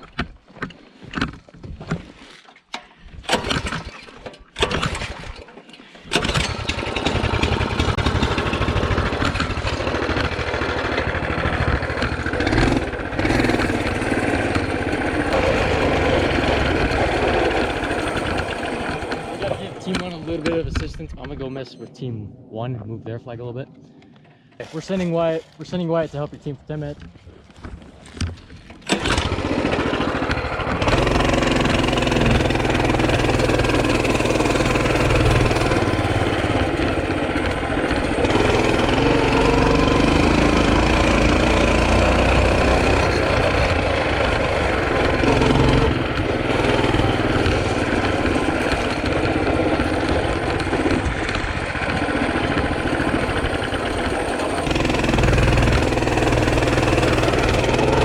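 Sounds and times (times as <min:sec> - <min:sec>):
small petrol engine running: 0:03.3 - 0:20.6, 0:28.8 - 0:58.0.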